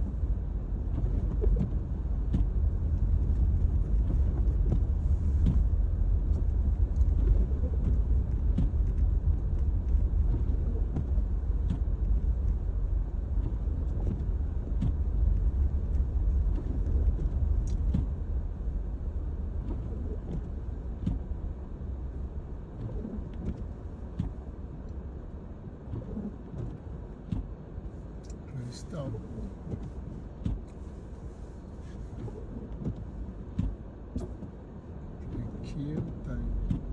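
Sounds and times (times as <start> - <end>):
car cabin road rumble: 0.0 - 36.9.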